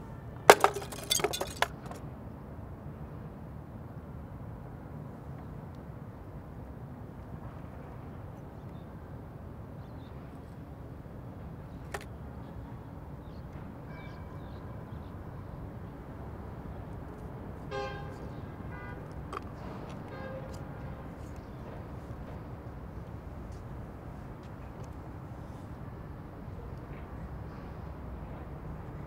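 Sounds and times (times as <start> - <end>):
distant city traffic: 0.0 - 29.0.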